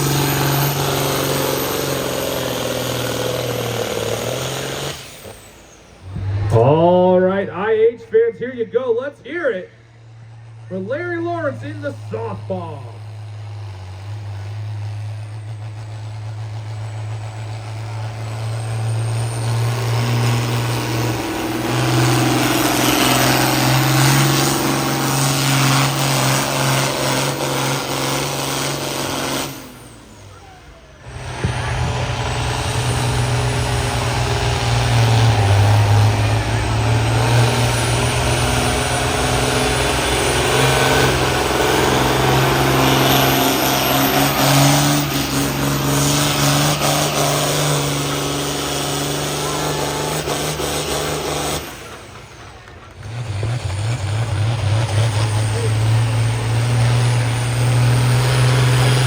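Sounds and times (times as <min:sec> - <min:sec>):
tractor engine running hard: 0:00.0 - 0:08.3, 0:09.7 - 0:59.0.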